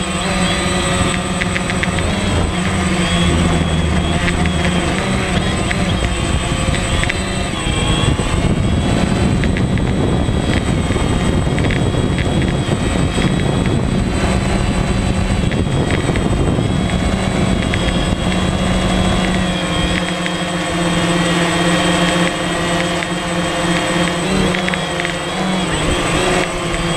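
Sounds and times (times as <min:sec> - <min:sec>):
drone propellers buzzing: 0:00.0 - 0:26.9
wind on microphone: 0:00.0 - 0:26.9.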